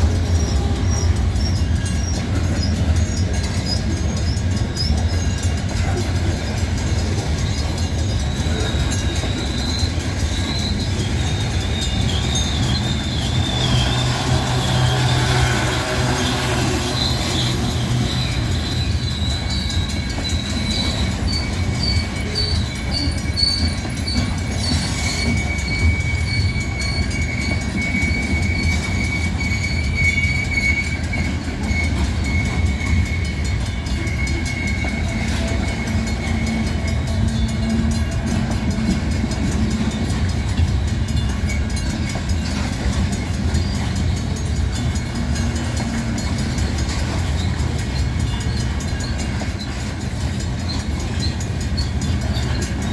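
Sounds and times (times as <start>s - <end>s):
high wheel squeal: 0.0s - 52.9s
train cars rumbling past: 0.0s - 52.9s.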